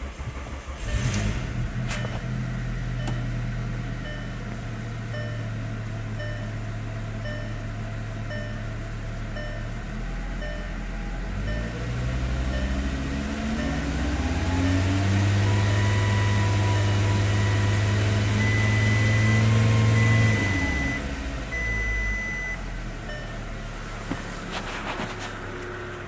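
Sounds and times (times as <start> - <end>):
car engine revving: 0.0 - 8.4, 9.8 - 26.0.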